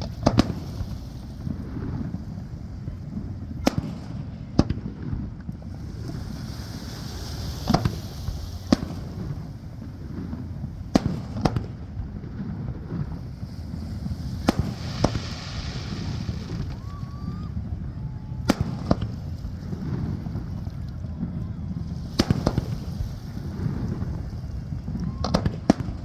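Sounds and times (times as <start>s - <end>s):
crackling hiss: 0.0s - 21.0s
fireworks bursting in bangs: 0.0s - 26.0s
low rumble: 0.0s - 26.0s.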